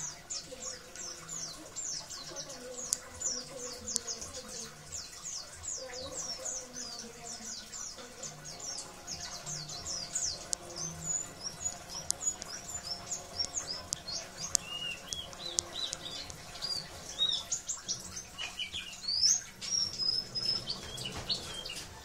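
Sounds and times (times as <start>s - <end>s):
bird twittering song: 0.0s - 22.0s.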